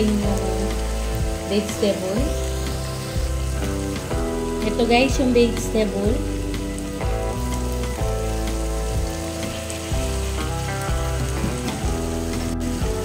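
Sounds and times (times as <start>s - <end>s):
background music with held chords: 0.0s - 13.0s
meat sizzling in a frying pan: 0.0s - 13.0s.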